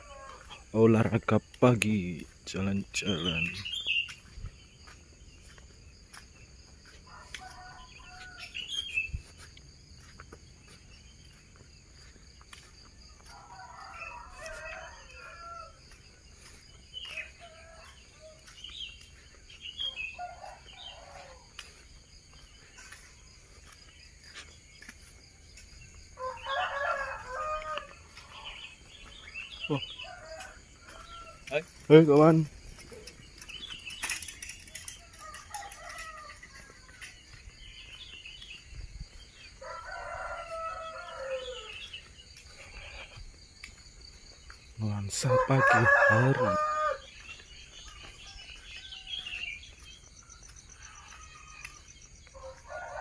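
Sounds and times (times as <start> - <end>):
roosters crowing: 0.0 - 1.4, 6.7 - 9.4, 11.2 - 23.7, 25.5 - 43.5, 44.3 - 53.0.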